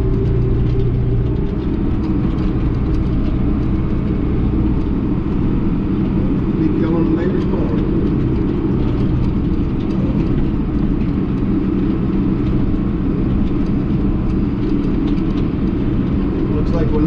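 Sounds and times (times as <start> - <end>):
faint clicks and rattles: 0.0 - 17.0
tractor diesel engine droning: 0.0 - 17.0.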